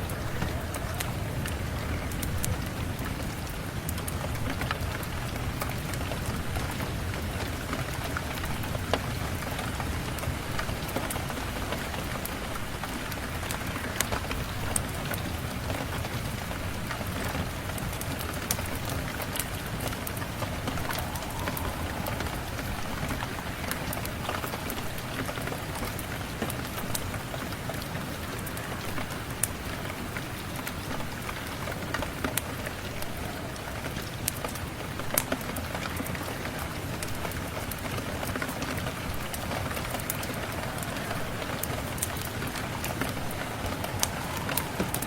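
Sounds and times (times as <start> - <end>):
steady rain falling: 0.0 - 45.0
wood fire crackling: 0.0 - 45.0.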